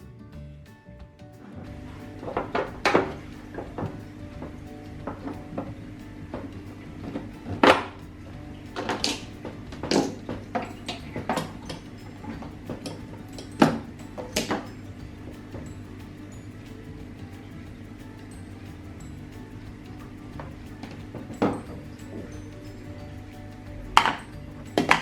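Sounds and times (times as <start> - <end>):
steady low hum: 1.3 - 25.0.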